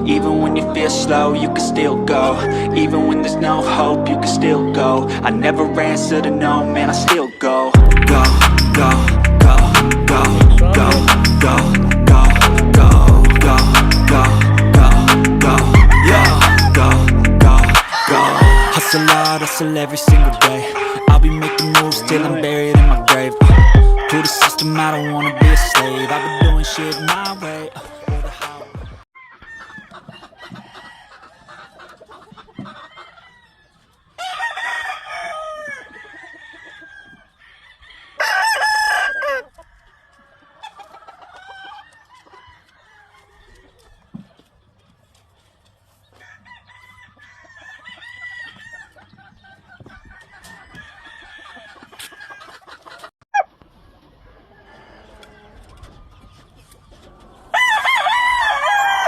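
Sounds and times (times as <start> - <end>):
roosters crowing and clucking: 0.0 - 59.0.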